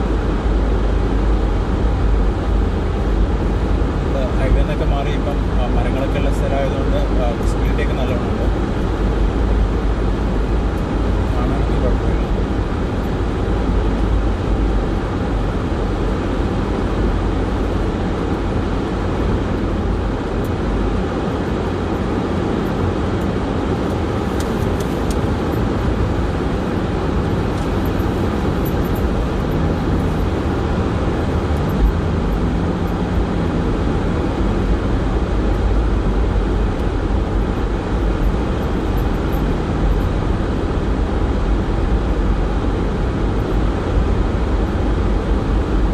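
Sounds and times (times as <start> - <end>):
car cabin road and engine noise: 0.0 - 45.9.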